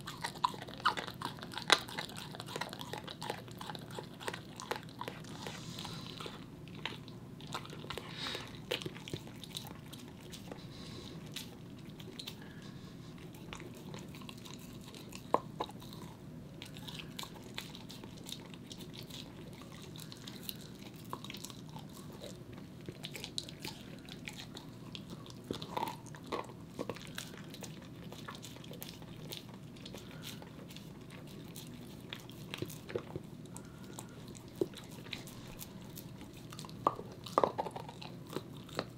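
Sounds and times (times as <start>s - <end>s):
dog chewing on bone: 0.0s - 38.9s.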